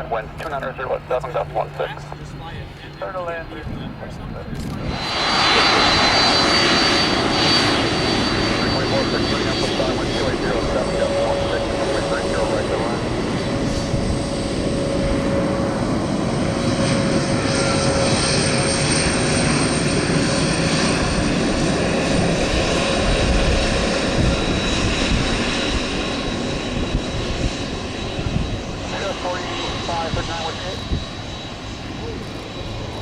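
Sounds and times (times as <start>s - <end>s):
jet engines at takeoff power: 0.0s - 33.0s.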